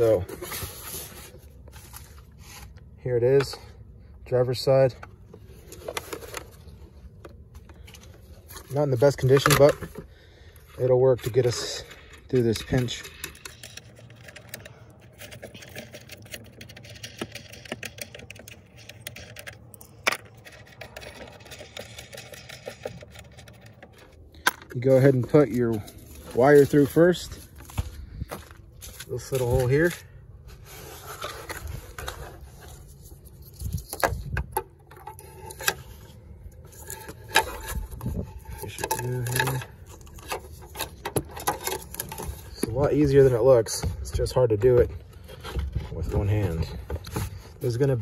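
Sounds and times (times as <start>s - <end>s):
plastic parts clicking and rattling: 4.9s - 27.8s, 30.8s - 48.0s.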